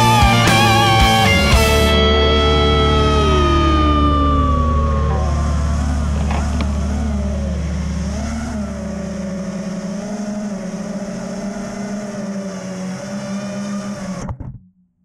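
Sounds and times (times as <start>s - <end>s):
drone propellers whining: 0.0s - 14.6s.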